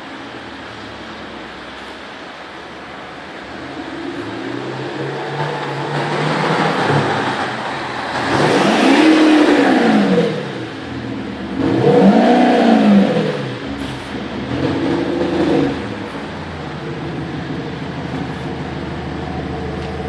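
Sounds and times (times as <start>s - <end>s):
diesel engine revving: 3.0s - 20.0s.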